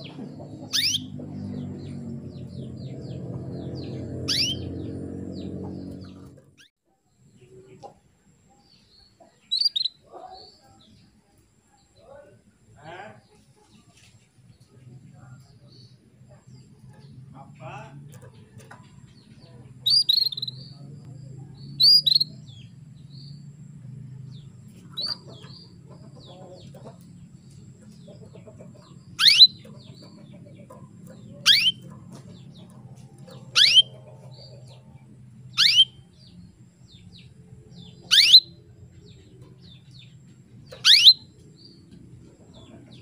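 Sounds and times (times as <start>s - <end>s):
canary chirping and calling: 0.0s - 6.7s, 9.4s - 10.6s, 16.5s - 43.0s.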